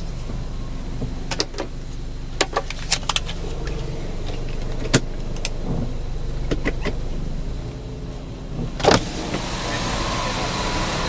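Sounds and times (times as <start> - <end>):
sharp clicks and rattles: 0.0 - 9.5
car engine running: 0.0 - 11.0.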